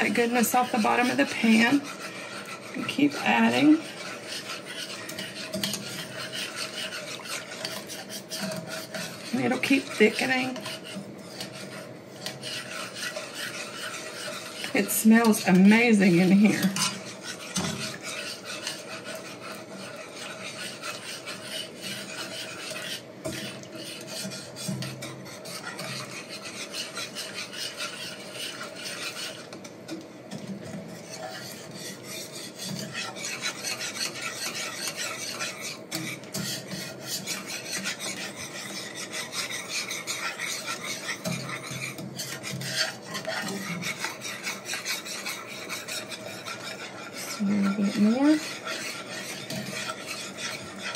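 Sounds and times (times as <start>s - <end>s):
whisk scraping a pan: 0.0s - 50.9s.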